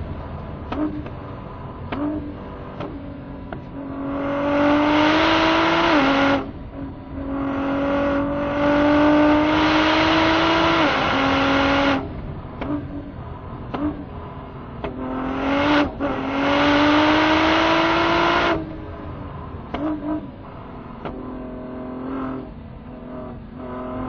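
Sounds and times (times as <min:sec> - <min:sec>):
car engine revving under full throttle: 0:00.0 - 0:24.0.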